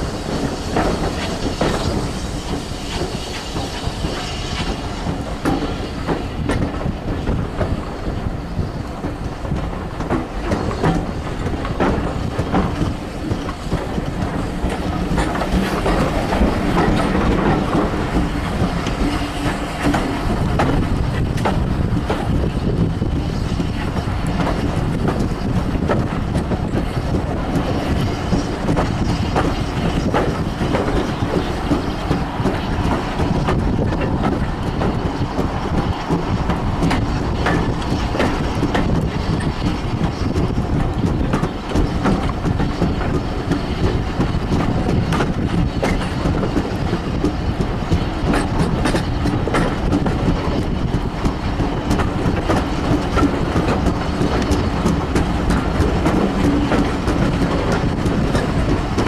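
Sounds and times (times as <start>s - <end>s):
train carriages rumbling: 0.0s - 59.0s
wheels clattering over rail joints: 0.0s - 59.0s.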